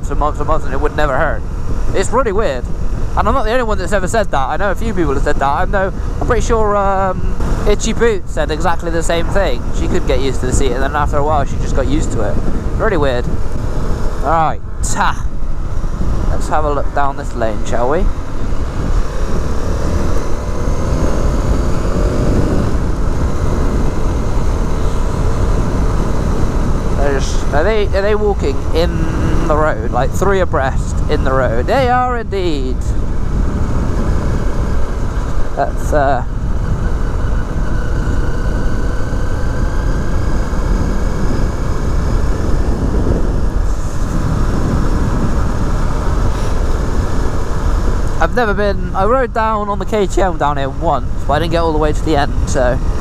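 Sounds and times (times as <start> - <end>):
motorcycle engine running: 0.0 - 53.0
wind rumble on microphone: 0.0 - 53.0.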